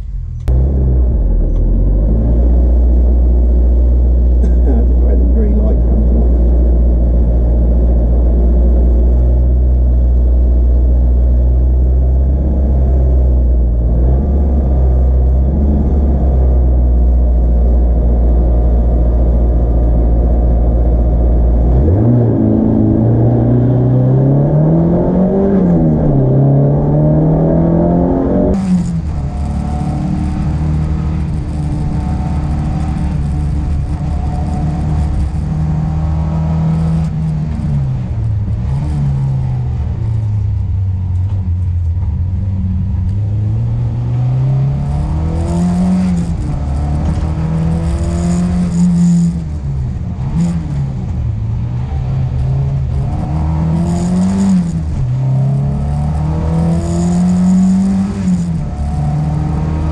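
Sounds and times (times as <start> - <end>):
car engine revving from inside: 0.4 - 59.9.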